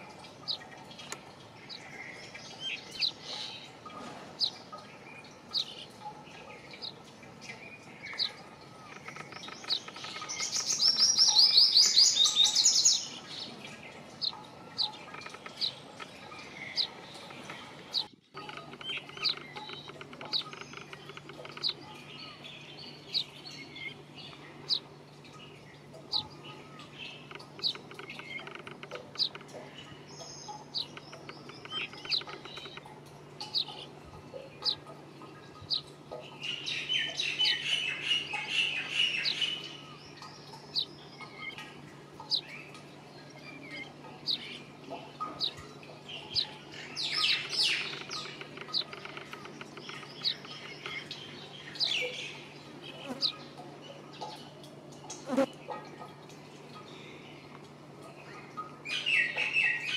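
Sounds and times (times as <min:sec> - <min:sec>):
birds twittering: 0:00.0 - 0:59.9.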